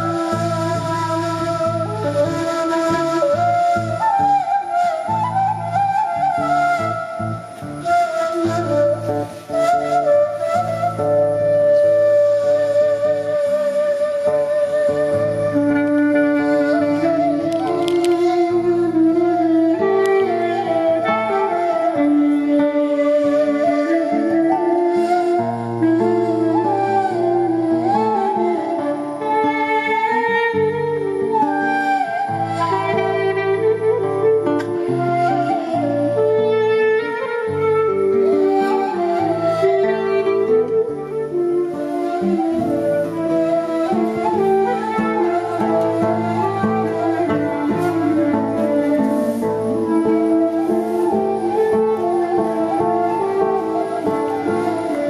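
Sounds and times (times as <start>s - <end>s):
instrumental music with gliding melody: 0.0s - 55.0s.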